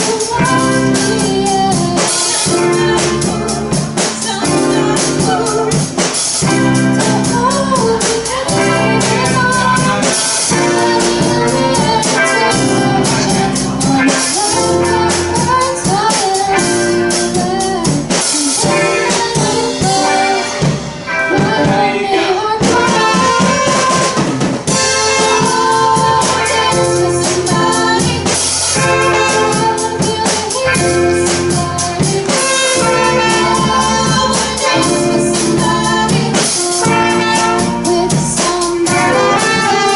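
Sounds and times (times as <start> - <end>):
bass guitar: 0.0 - 39.9
drum kit beat: 0.0 - 39.9
keyboards: 0.0 - 39.9
person singing: 0.0 - 39.9.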